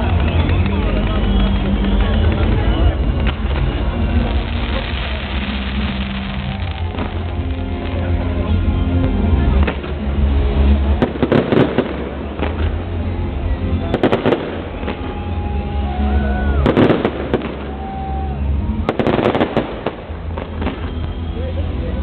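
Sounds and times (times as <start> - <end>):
fireworks bursting with crackles: 0.0 - 22.0.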